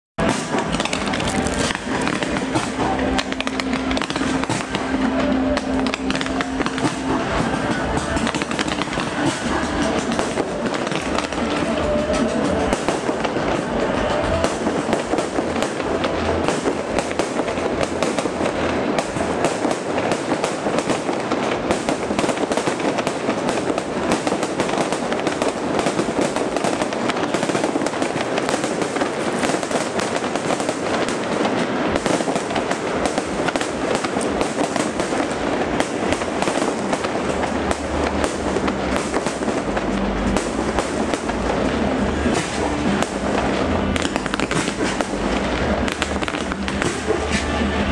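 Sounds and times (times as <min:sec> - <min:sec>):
fireworks crackling and popping: 0:00.1 - 0:47.9.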